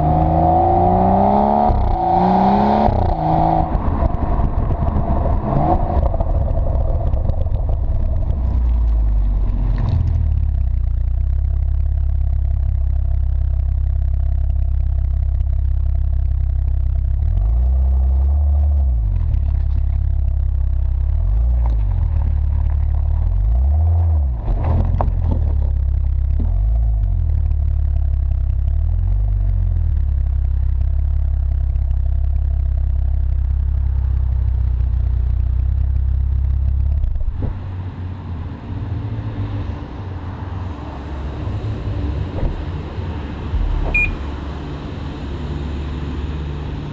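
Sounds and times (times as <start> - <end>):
car exhaust drone: 0.0 - 46.9.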